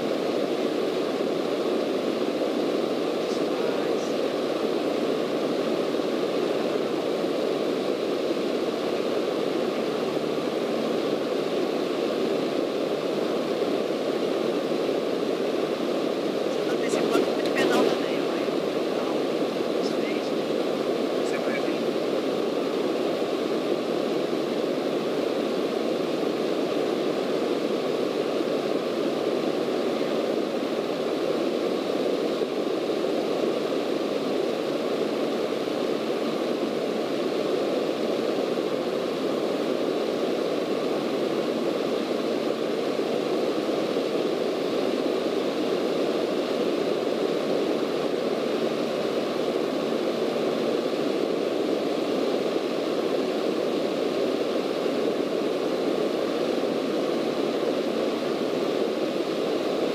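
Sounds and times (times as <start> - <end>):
light aircraft engine and propeller drone: 0.0 - 59.9
rushing airflow: 0.0 - 59.9.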